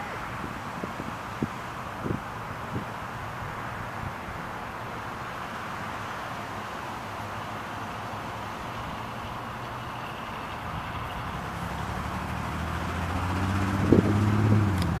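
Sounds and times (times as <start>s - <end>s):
approaching vehicle engine hum: 0.0s - 15.0s
passing road traffic: 0.0s - 15.0s.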